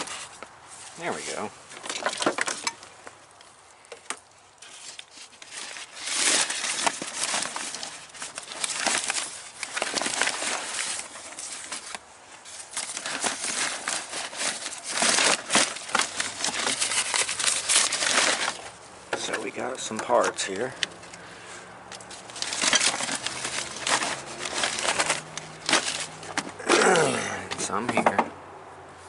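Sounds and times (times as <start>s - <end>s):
bag crinkling and rustling: 0.0s - 21.3s, 21.9s - 27.8s.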